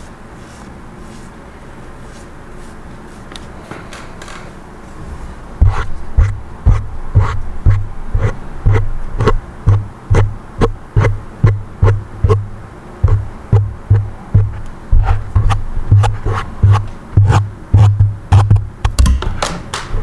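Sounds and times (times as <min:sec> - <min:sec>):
comb strokes: 0:00.0 - 0:03.7, 0:04.8 - 0:18.5.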